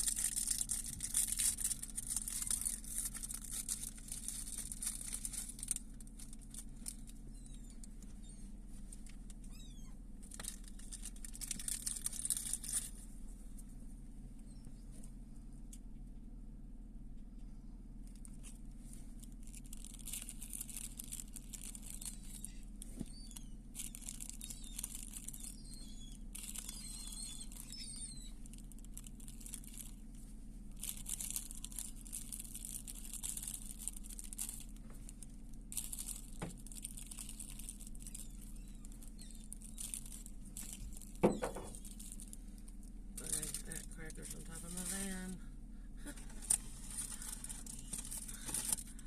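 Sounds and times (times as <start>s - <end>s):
crackling and rustling noise: 0.0s - 16.0s, 17.3s - 45.4s, 46.0s - 49.0s
steady low hum: 0.0s - 49.0s.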